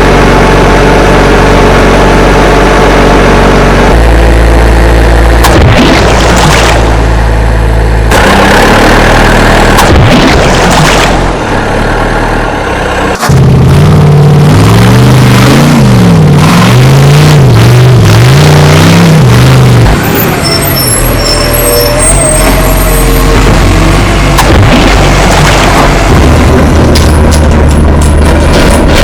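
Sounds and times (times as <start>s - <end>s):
heavy vehicle engine revving: 0.0s - 29.0s.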